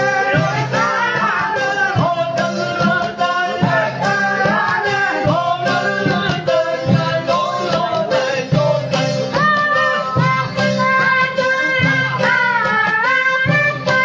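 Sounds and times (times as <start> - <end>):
men singing together: 0.0 - 14.0.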